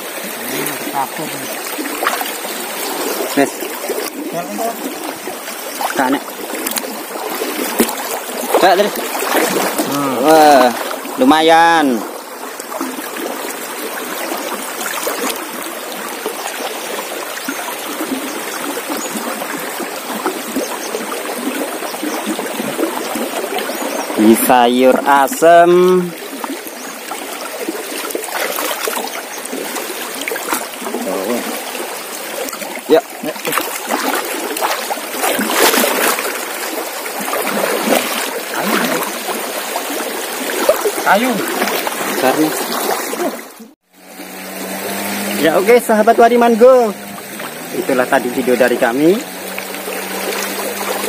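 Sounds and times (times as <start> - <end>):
river current rushing: 0.0 - 51.0.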